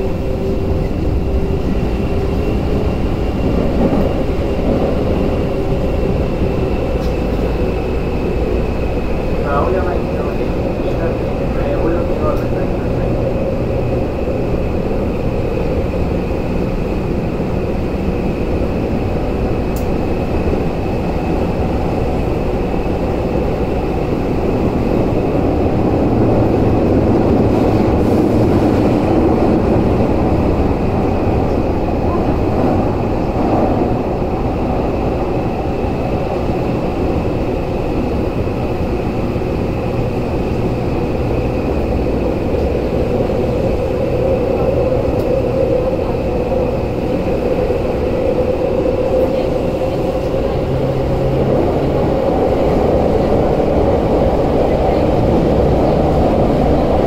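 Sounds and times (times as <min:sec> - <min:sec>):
subway train rumbling in tunnel: 0:00.0 - 0:57.0.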